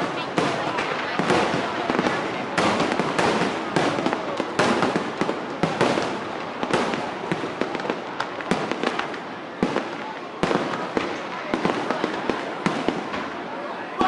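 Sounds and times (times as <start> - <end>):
firework bangs: 0.0 - 14.0
firework crackling: 0.0 - 14.0.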